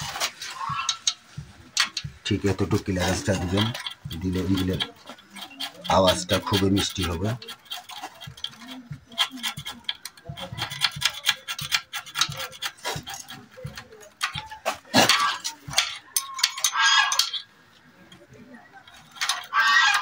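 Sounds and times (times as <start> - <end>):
hand tools clicking on metal: 0.0 - 20.0.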